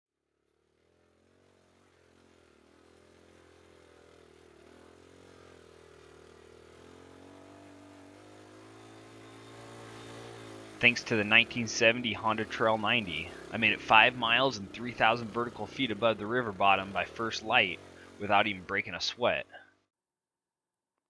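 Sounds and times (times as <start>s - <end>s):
motorcycle engine running: 0.3s - 19.8s.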